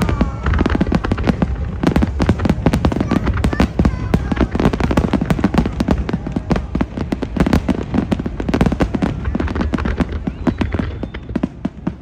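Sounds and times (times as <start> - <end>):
firework bangs and crackles: 0.0 - 12.0
low rumbling booms: 0.0 - 12.0.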